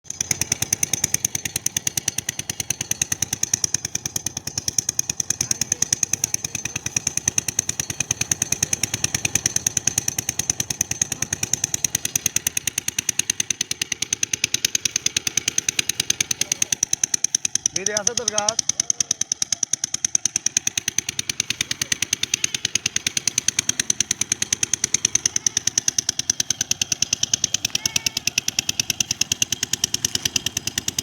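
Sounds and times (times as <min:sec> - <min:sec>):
small engine knocking: 0:00.0 - 0:31.0.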